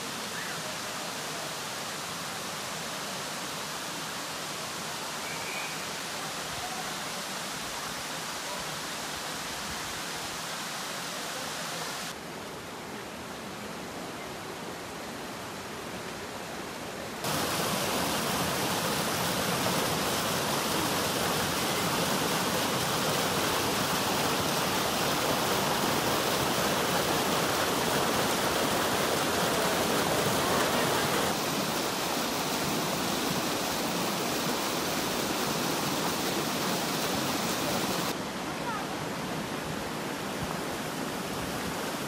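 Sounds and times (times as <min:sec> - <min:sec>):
stream rushing over boulders: 0:00.0 - 0:42.0.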